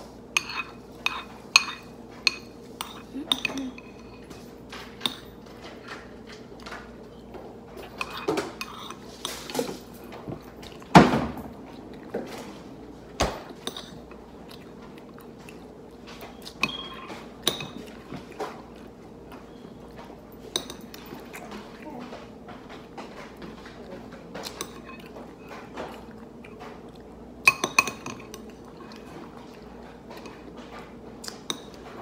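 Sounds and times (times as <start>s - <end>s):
utensil clinking and scraping bowl: 0.3s - 10.8s, 15.4s - 32.0s.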